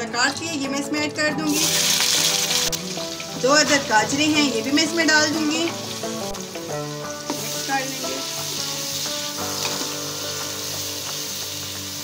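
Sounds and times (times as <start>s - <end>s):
vegetables sizzling in hot oil: 1.4s - 12.0s.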